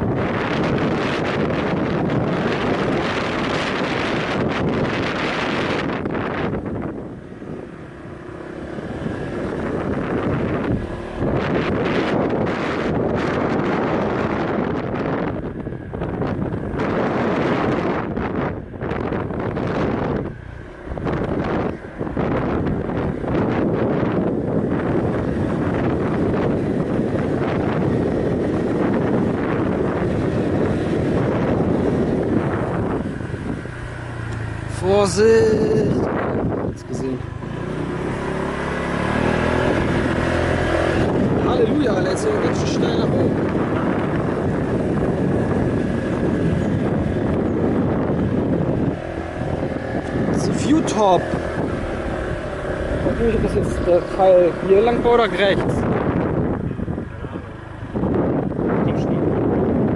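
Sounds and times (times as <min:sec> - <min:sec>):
motorbike engine running: 0:00.0 - 0:59.9
road noise: 0:00.0 - 0:59.9
wind buffeting microphone: 0:00.0 - 0:59.9.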